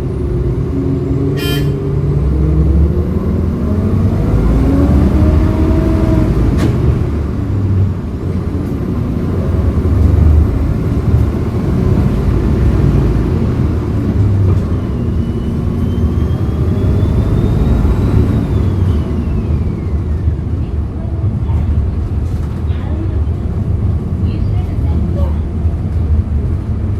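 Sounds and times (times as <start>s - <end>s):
bus engine droning: 0.0s - 26.9s.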